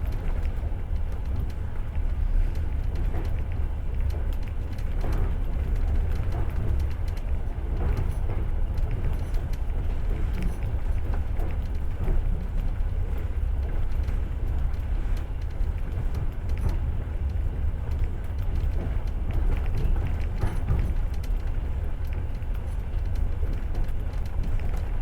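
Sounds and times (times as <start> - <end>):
faint clicks and knocks: 0.0 - 25.0
train wheels rumbling on track: 0.0 - 25.0.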